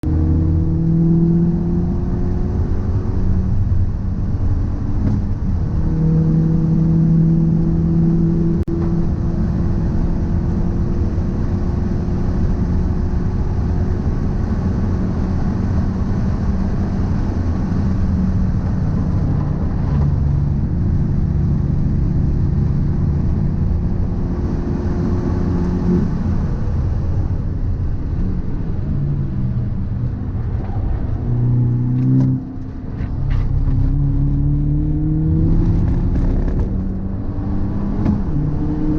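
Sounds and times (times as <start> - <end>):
car driving low rumble: 0.0 - 38.9.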